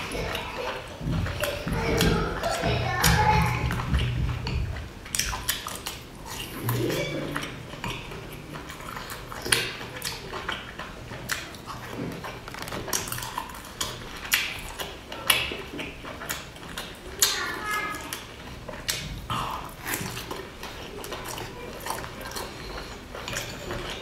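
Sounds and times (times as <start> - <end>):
chewing with wet mouth noises: 0.0 - 24.0.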